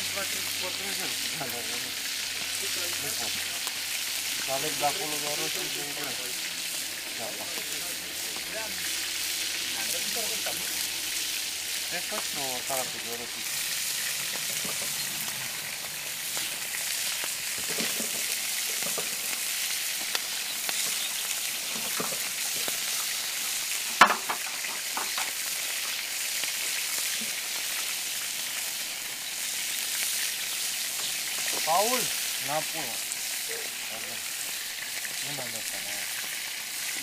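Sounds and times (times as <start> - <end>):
kebabs sizzling in a skillet: 0.0 - 37.0.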